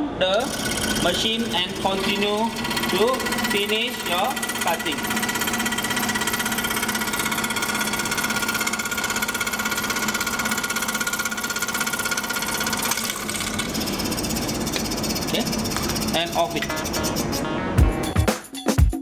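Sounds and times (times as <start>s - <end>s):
scroll saw chattering: 0.4s - 17.4s.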